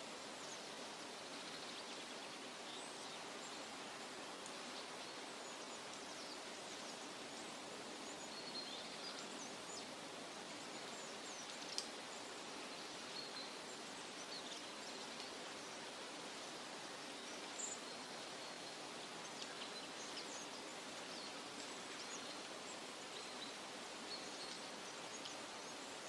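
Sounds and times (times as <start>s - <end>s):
rushing hiss through foliage: 0.0s - 26.0s.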